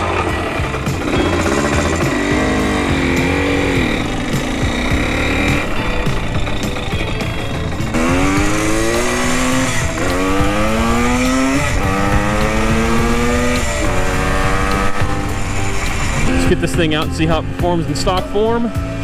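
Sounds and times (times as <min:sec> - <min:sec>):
two-stroke motorcycle accelerating: 0:00.0 - 0:19.0.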